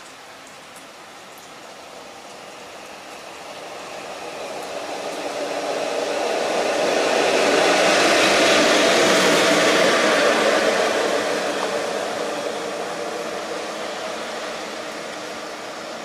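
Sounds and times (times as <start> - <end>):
electric locomotive passing: 0.0 - 16.0
rain hiss: 0.0 - 16.0.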